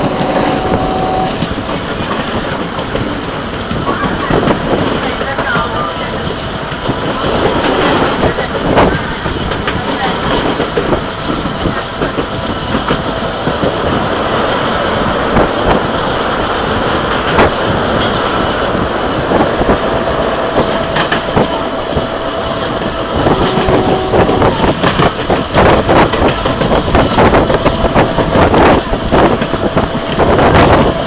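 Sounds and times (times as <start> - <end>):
train running noise: 0.0 - 31.0
train wheels clattering over rails: 0.0 - 31.0.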